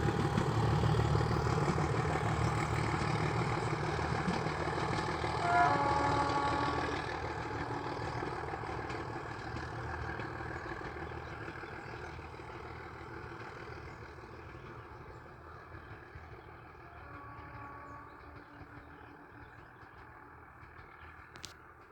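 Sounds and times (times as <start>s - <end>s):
diesel locomotive engine rumble: 0.0s - 21.9s.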